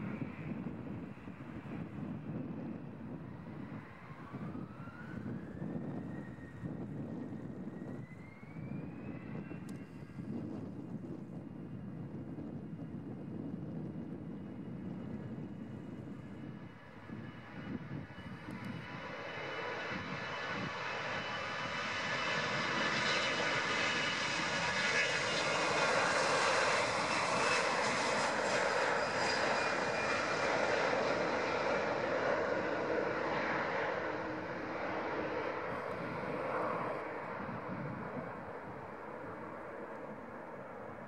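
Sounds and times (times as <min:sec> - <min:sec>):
jet engines at takeoff: 0:00.0 - 0:41.0.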